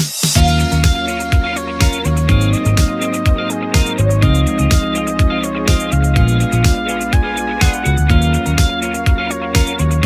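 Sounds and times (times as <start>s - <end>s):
low drum beat: 0.3s - 9.2s
held melody notes: 0.4s - 10.0s.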